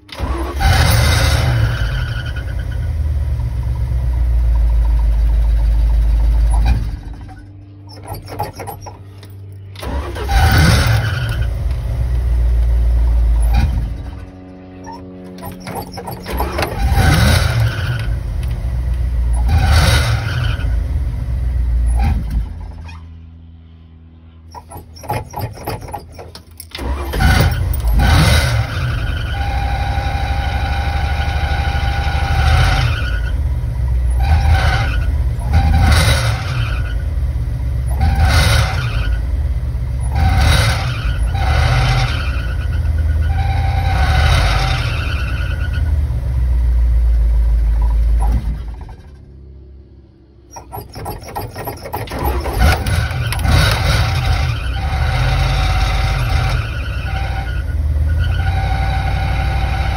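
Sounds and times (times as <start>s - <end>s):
drive belt squealing: 0.0s - 3.0s, 4.1s - 11.8s, 13.2s - 20.9s, 24.4s - 37.1s, 37.8s - 39.4s, 40.0s - 46.0s, 50.5s - 59.9s
van engine running unevenly: 0.0s - 59.9s.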